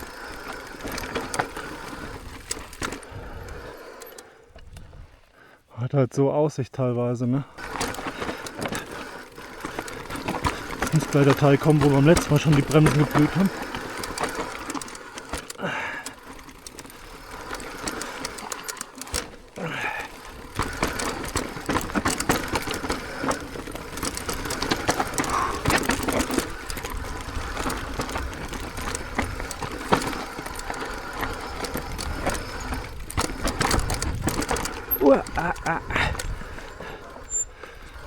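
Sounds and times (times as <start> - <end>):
bike rattling over stones: 0.0 - 5.4, 7.0 - 38.0.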